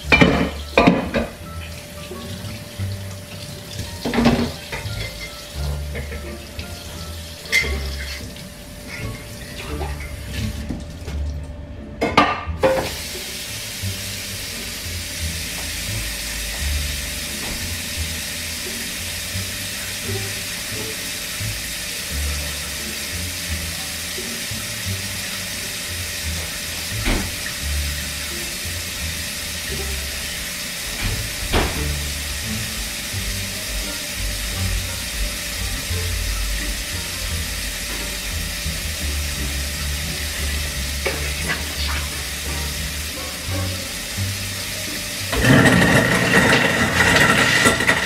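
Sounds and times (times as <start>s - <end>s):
faucet water running into sink: 0.0s - 11.5s, 12.6s - 48.0s.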